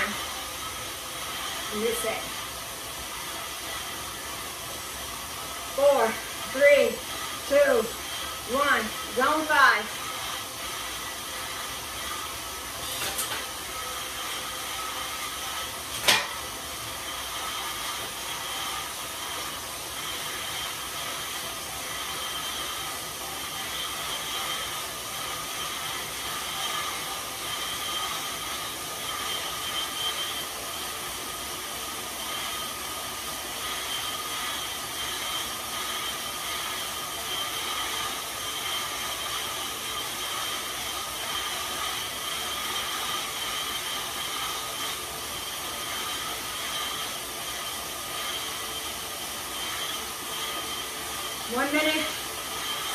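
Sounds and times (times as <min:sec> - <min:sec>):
bike tyres whirring on rollers: 0:00.0 - 0:52.9.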